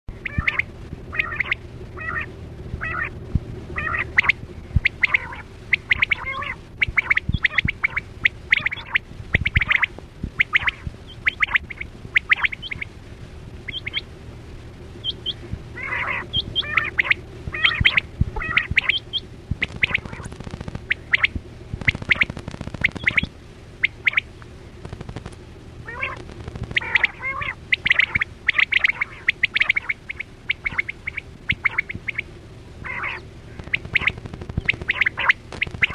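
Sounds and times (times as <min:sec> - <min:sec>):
quail calling: 0:00.1 - 0:13.0, 0:13.6 - 0:14.1, 0:15.0 - 0:24.3, 0:25.8 - 0:35.9
steady low hum: 0:00.1 - 0:35.9.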